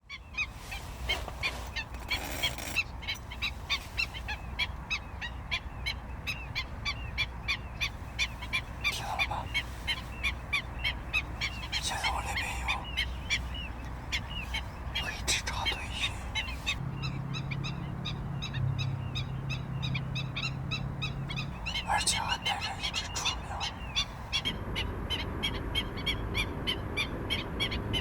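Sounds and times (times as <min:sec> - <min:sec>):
flock of birds calling: 0:00.0 - 0:28.0.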